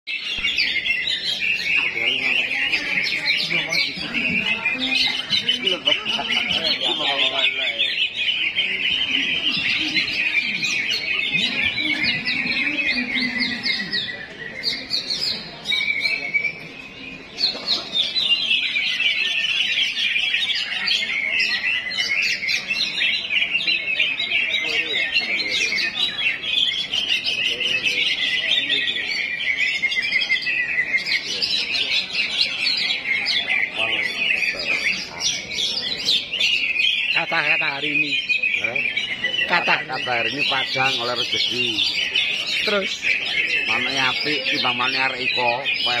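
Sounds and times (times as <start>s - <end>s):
songbirds chirping and trilling: 0.1s - 46.0s.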